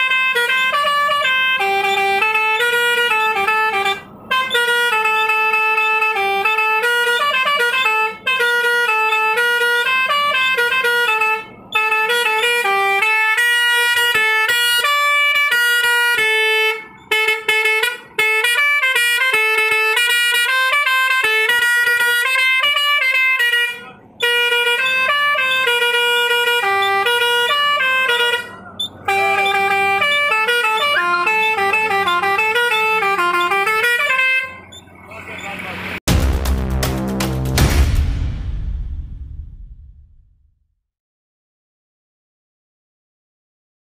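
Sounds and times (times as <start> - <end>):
truck musical horn playing melodies: 0.0 - 37.6.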